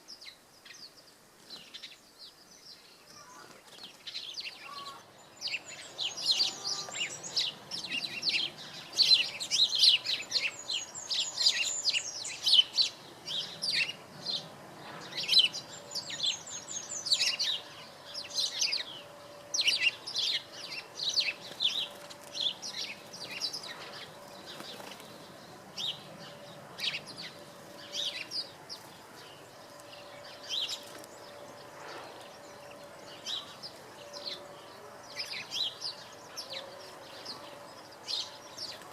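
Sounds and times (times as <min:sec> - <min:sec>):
faint steady hum: 0:00.0 - 0:38.9
robin singing: 0:00.0 - 0:38.9.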